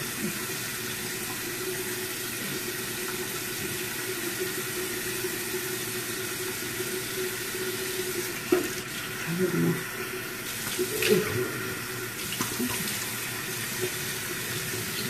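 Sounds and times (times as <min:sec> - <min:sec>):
face being rinsed with water: 0:00.0 - 0:15.0
sink tap running: 0:00.0 - 0:15.0.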